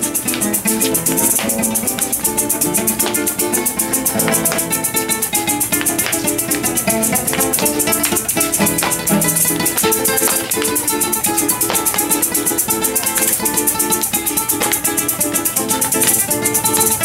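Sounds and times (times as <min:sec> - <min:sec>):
cuatro strummed briskly: 0:00.0 - 0:17.0
maracas shaking: 0:00.0 - 0:17.0.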